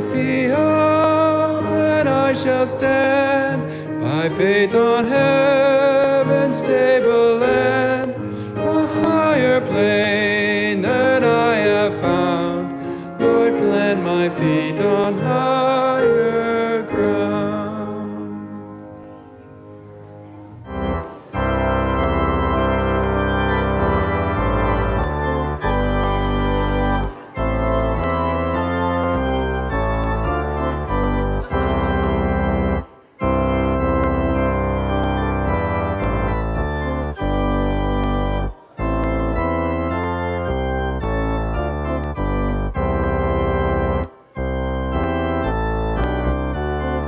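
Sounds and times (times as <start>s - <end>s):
organ chords: 0.0s - 47.0s.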